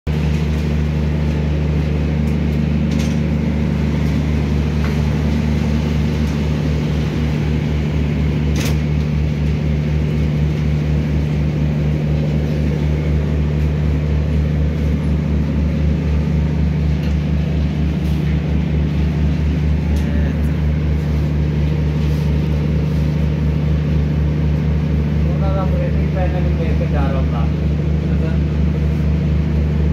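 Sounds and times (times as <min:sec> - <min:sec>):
heavy machinery humming and throbbing: 0:00.1 - 0:29.9.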